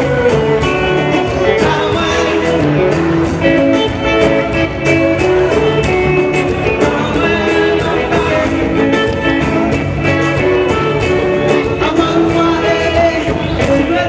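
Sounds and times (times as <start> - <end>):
drums with a steady beat: 0.0 - 14.0
electric guitar: 0.0 - 14.0.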